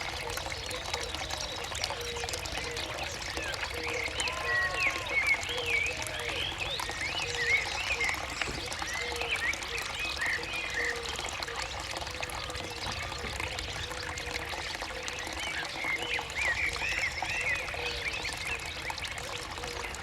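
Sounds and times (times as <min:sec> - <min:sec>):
birds chirping and twittering: 0:00.4 - 0:11.5, 0:12.3 - 0:20.0.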